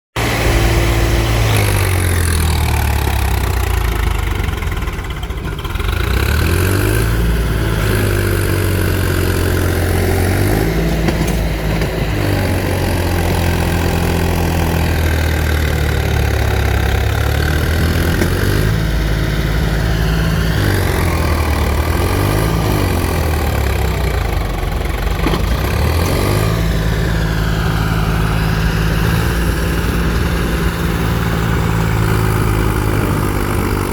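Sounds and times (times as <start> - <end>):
diesel engine revving: 0.2 - 33.9.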